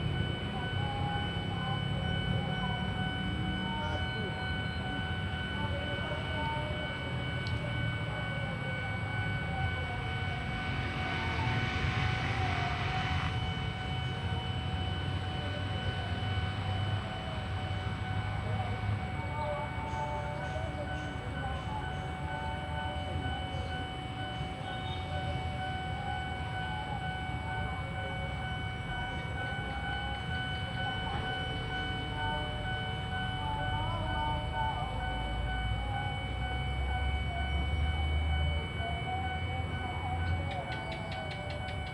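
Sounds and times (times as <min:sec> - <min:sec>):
high-pitched ringing tones: 0:00.0 - 0:41.9
train rumbling past: 0:00.0 - 0:41.9.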